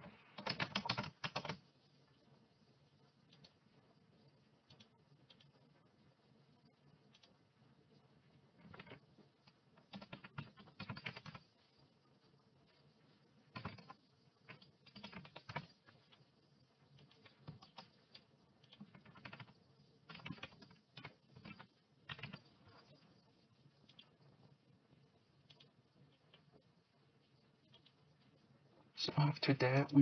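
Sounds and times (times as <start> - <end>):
faint keyboard typing: 0.0 - 30.0.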